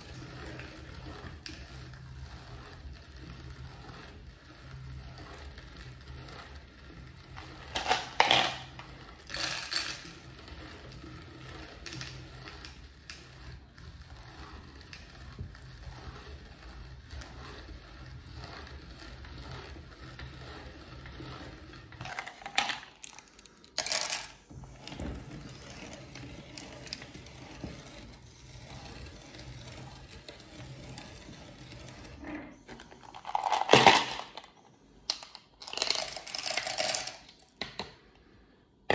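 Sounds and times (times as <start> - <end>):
hand-cranked meat grinder grinding: 0.0 - 37.7.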